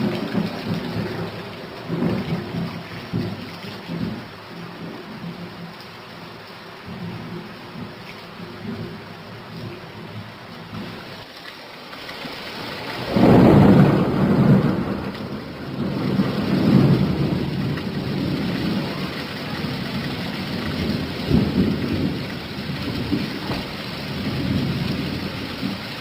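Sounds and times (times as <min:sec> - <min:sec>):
thunder rumbling: 0:00.0 - 0:11.3, 0:12.2 - 0:26.0
steady rain: 0:00.0 - 0:26.0.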